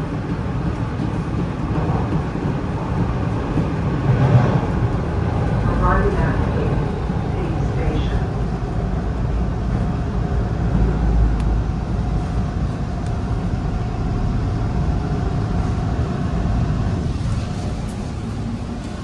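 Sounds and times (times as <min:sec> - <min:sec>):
train wheels and motors rumbling: 0:00.0 - 0:19.0.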